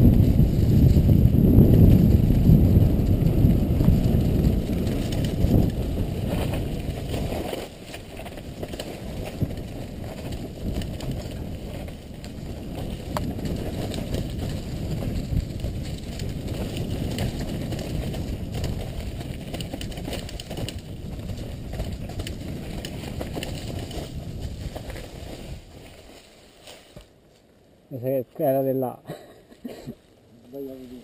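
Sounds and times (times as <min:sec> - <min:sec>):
wind rumble on microphone: 0:00.0 - 0:26.4
bike rattling over bumps: 0:00.0 - 0:27.2
bike tyres on dirt trail: 0:00.0 - 0:28.9.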